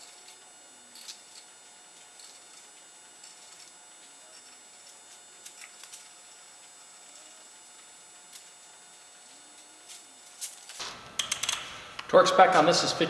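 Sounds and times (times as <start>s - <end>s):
small metal parts clicking: 0.0s - 7.4s, 8.3s - 11.7s.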